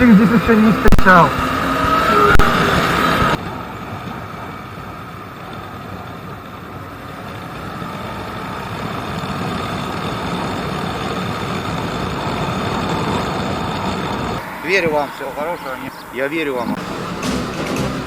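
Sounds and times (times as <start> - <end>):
motorcycle engine running: 0.0 - 14.4, 16.8 - 18.0
road noise: 0.0 - 18.0.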